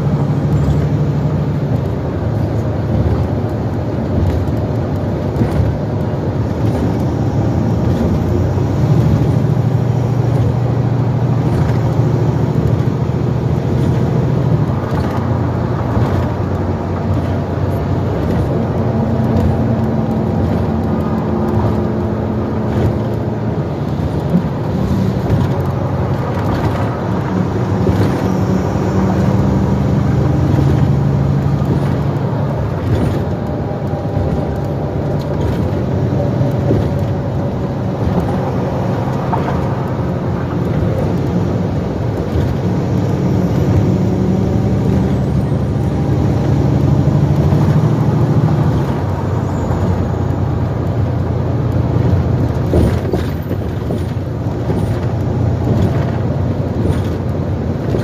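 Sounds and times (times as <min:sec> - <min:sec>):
bus diesel engine drone: 0:00.0 - 0:58.0
road noise: 0:00.0 - 0:58.0.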